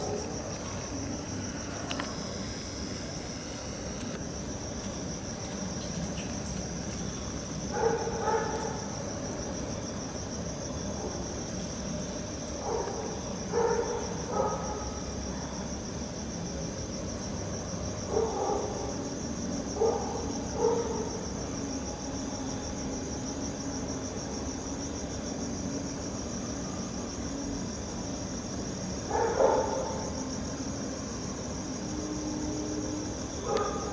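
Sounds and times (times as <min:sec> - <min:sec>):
crickets chirring: 0:00.0 - 0:33.9.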